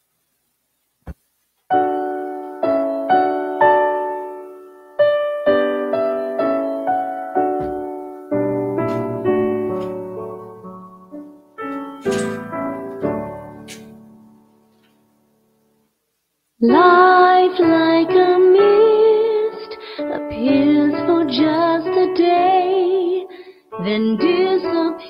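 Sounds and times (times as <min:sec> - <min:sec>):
slow piano music: 0:01.7 - 0:15.9, 0:16.7 - 0:25.0.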